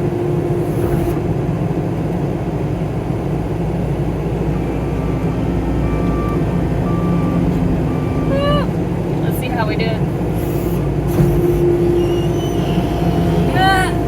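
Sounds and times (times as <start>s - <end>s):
skid steer engine running: 0.0s - 14.0s.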